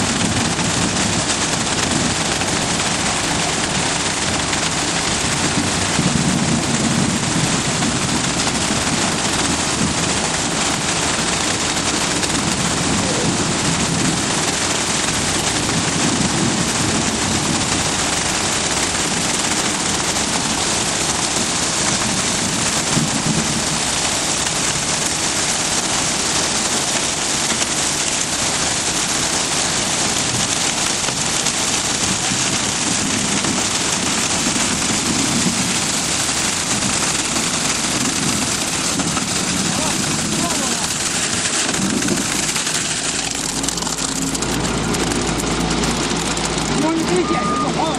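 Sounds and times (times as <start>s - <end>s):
concrete mixer rattling: 0.0s - 47.9s.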